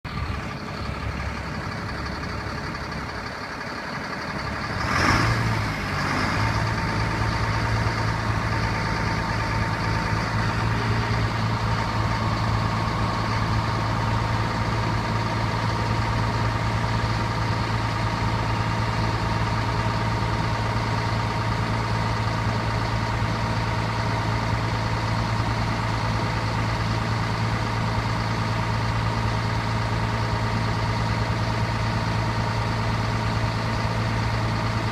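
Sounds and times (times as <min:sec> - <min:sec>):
diesel engine idling: 0:00.0 - 0:34.9
diesel truck engine starting: 0:00.0 - 0:34.9.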